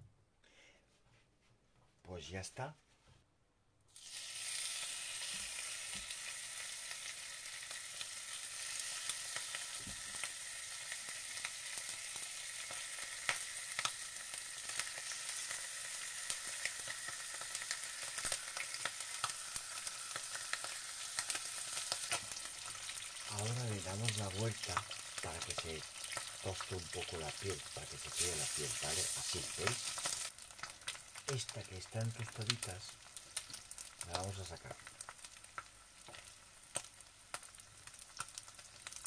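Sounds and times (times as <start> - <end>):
chicken skin sizzling in oil: 3.9 - 39.0
oil crackling and popping: 3.9 - 39.0.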